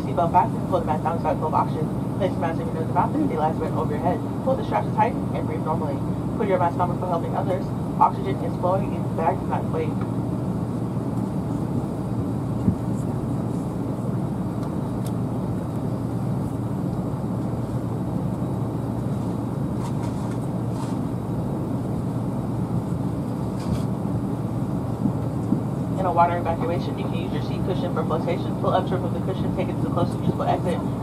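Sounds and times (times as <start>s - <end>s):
airliner cabin low rumble: 0.0s - 31.0s.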